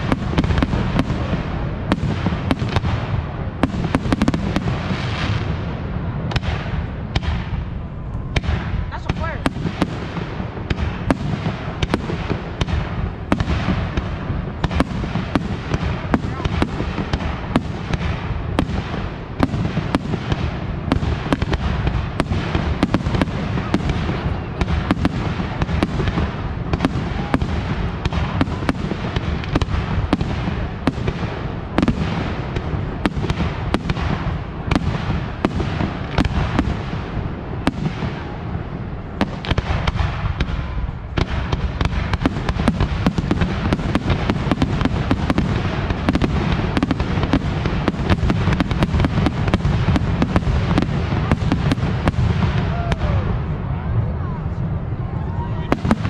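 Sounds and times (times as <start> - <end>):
fireworks bangs and crackles: 0.0 - 56.0
steady low rumble: 0.0 - 56.0.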